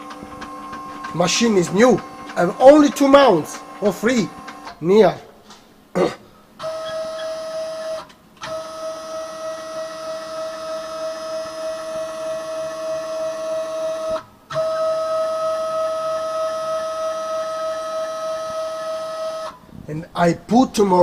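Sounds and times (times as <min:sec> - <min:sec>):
machine axis whining: 0:00.0 - 0:05.6, 0:06.5 - 0:19.6.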